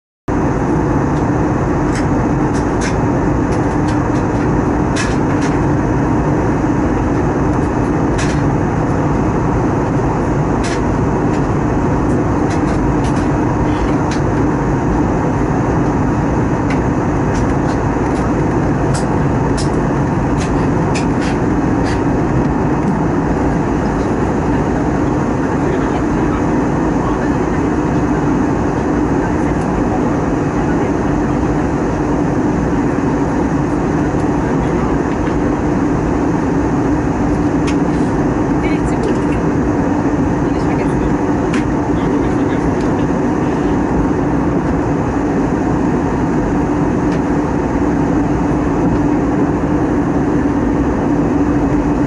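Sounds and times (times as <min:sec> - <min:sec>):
airplane cabin airflow and engine: 0:00.3 - 0:52.0
steady low hum: 0:00.3 - 0:52.0.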